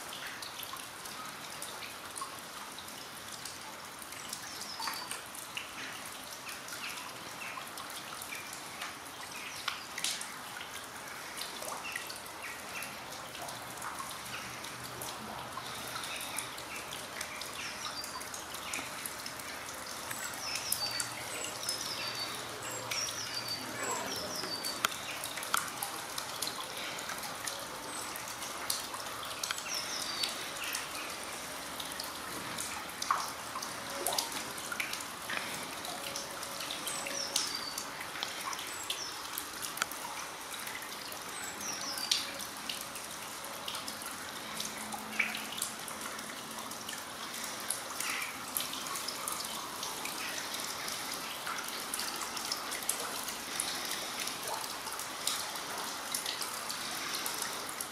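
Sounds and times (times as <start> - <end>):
fine rain falling and dripping: 0.0 - 57.9.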